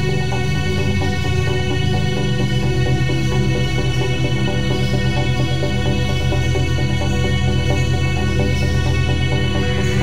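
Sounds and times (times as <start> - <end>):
electronic music with pulsing bass: 0.0 - 10.0.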